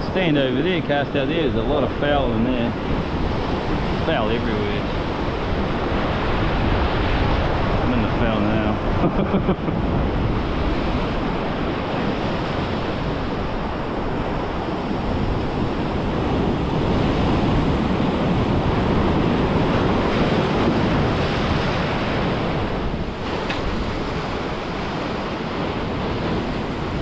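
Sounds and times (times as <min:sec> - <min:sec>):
surf breaking over rocks: 0:00.0 - 0:27.0.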